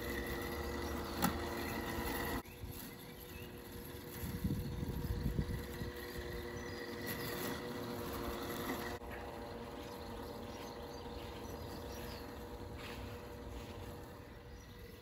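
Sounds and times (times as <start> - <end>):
faint electric motor whine: 0.0 - 15.0
robot lawn mower running: 0.0 - 15.0.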